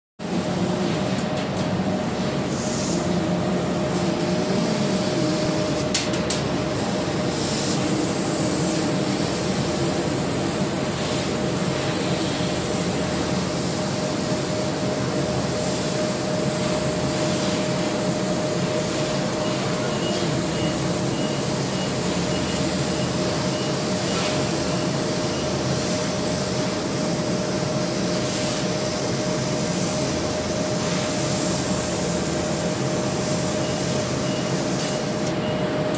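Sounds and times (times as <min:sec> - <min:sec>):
laser cutting machine hissing: 0:00.2 - 0:35.9.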